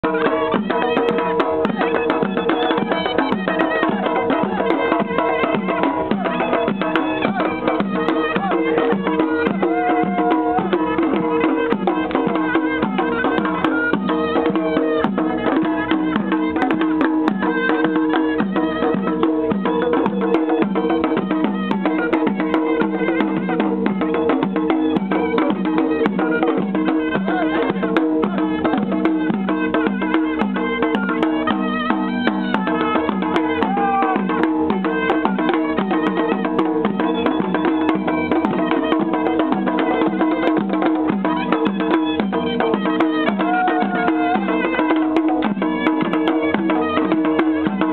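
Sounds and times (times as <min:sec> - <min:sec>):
drums beaten with sticks: 0:00.0 - 0:47.9
wind instrument melody: 0:00.0 - 0:47.9.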